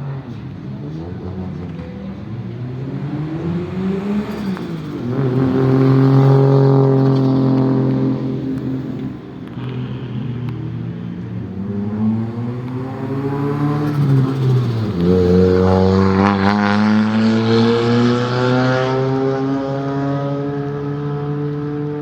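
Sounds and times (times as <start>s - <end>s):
car engine accelerating: 0.2s - 22.0s.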